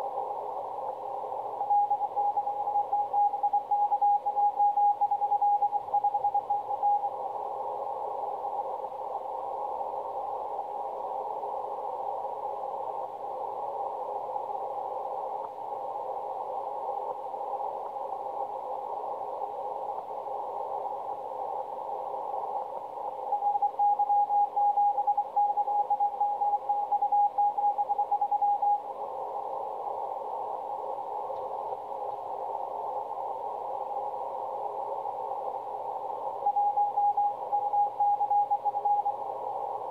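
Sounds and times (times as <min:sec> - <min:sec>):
radio band noise hiss: 0:00.0 - 0:39.9.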